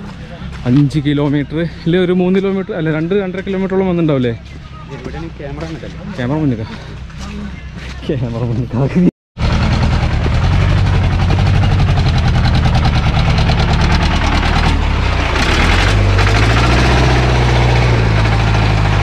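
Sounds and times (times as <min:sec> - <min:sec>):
jeep engine running: 0:00.0 - 0:19.0.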